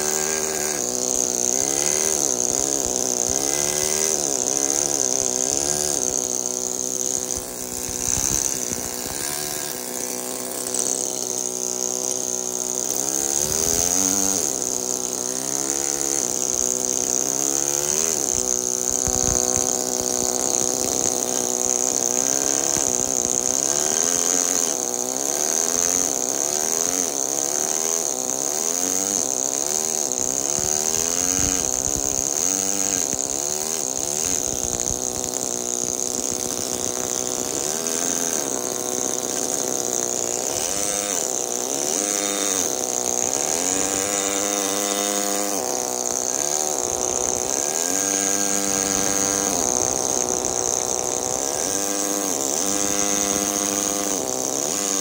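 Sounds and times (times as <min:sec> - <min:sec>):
pneumatic hammer buzzing: 0:00.0 - 0:55.0.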